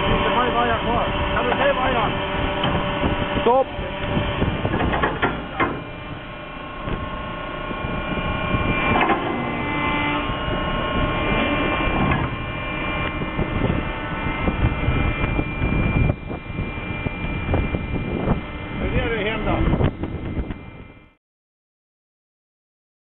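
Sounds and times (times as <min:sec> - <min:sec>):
wind and sea rushing: 0:00.0 - 0:21.0
ship machinery drone: 0:00.0 - 0:21.2.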